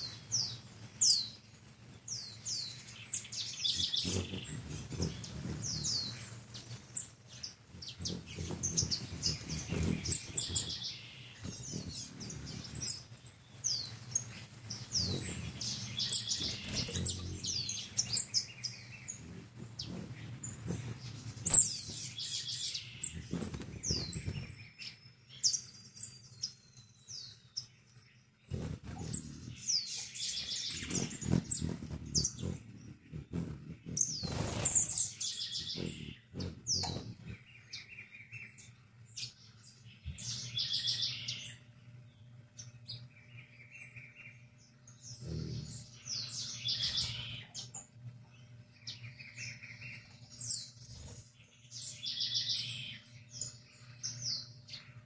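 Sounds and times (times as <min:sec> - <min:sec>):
hummingbird wing hum: 0:00.0 - 0:27.4, 0:28.3 - 0:55.0
hummingbird chirps: 0:00.0 - 0:55.0.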